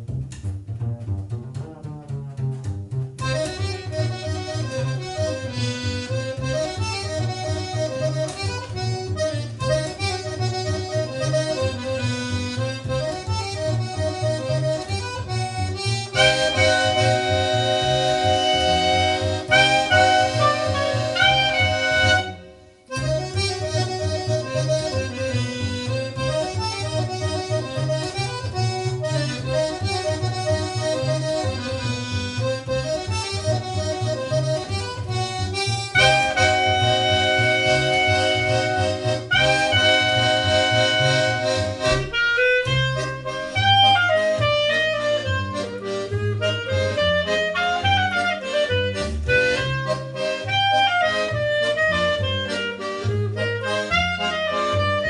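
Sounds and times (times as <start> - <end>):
plucked bass line: 0.0 - 55.0
accordion playing: 3.1 - 55.0.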